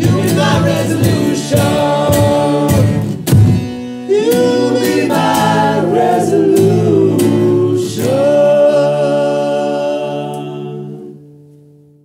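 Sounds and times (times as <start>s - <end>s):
male vocal group singing harmony: 0.0s - 3.2s, 4.0s - 11.3s.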